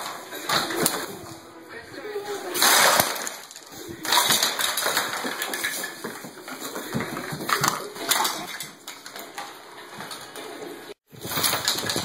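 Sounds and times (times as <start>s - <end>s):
plastic toys clattering on wood floor: 0.0s - 1.3s, 2.5s - 10.5s, 11.1s - 12.0s.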